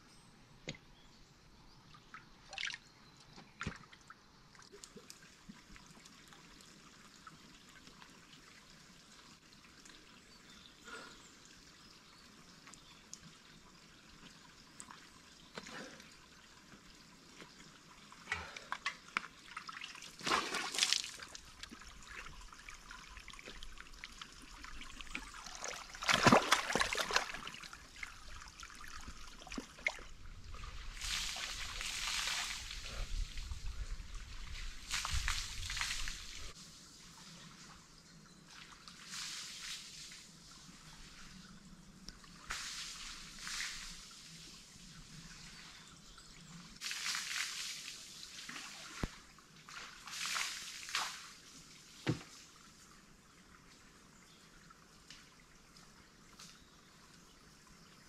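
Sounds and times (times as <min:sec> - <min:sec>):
water splashing and trickling: 0:00.6 - 0:58.0.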